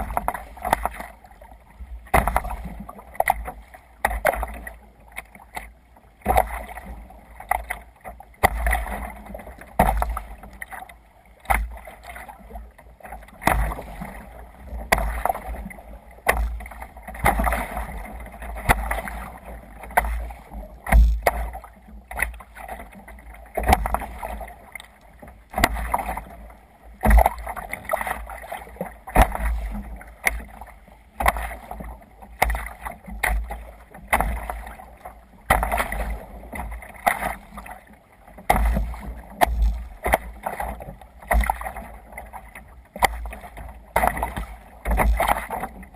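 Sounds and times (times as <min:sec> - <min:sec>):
water slapping kayak hull: 0:00.0 - 0:45.9.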